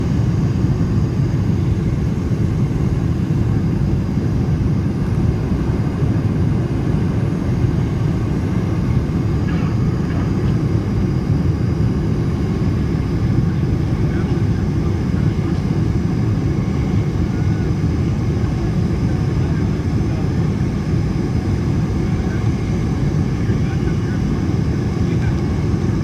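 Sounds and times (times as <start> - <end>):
airplane engines rumbling in cabin: 0.0 - 26.0.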